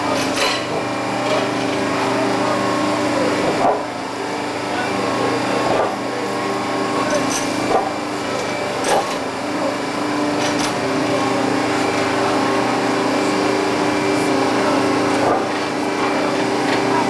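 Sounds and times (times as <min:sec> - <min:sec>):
track machine mechanical hum: 0:00.0 - 0:17.0.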